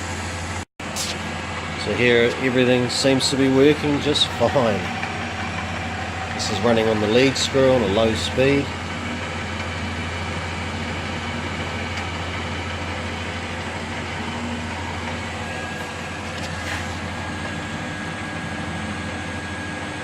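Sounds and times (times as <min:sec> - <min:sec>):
lathe motor hum: 0:00.0 - 0:20.0.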